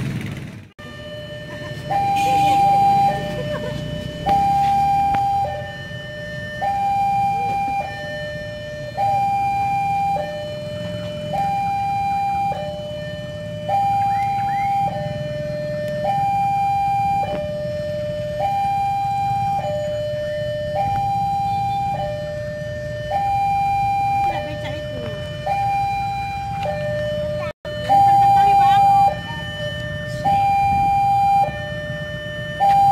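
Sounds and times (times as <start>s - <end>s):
diesel locomotive rumble: 0.0s - 32.9s
two-tone warning alarm: 0.8s - 32.9s.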